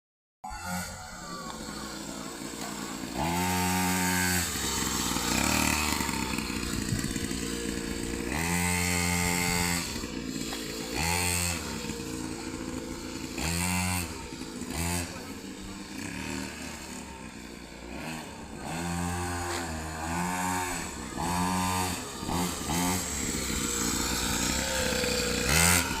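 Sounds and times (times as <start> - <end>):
motorbike engine revving: 0.4 - 26.0.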